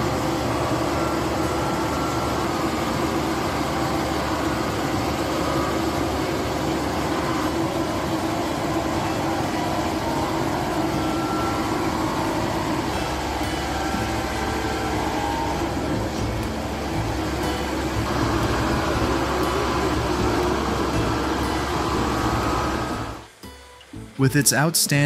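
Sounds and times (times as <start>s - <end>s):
bale shredder chopping hay: 0.0s - 23.2s
machine engine: 0.0s - 24.1s.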